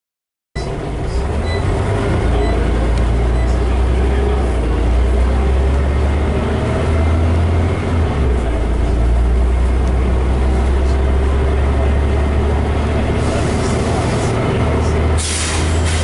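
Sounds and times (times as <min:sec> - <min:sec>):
bus engine drone: 0:00.6 - 0:16.0.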